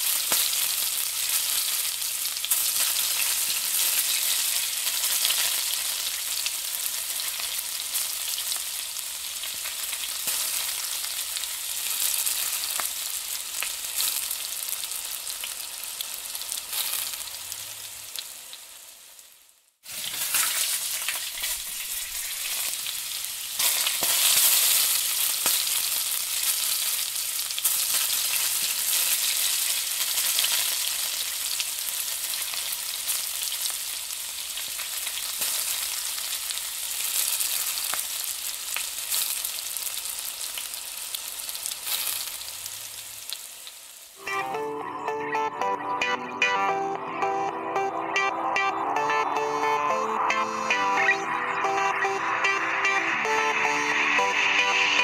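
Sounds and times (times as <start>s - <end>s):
onions sizzling in hot oil: 0.0s - 44.2s.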